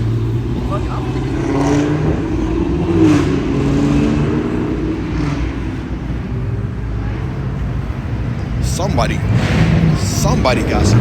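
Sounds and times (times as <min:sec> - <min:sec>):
car exhausts revving: 0:00.0 - 0:11.0.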